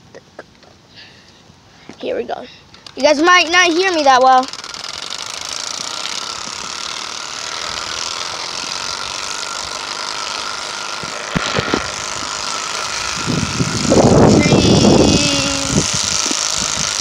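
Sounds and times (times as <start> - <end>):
cards flapping on bicycle spokes: 2.7 - 17.0.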